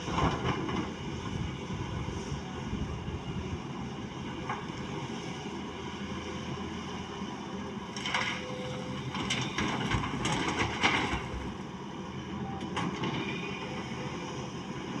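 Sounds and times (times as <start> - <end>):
excavator engine rumble: 0.0 - 15.0.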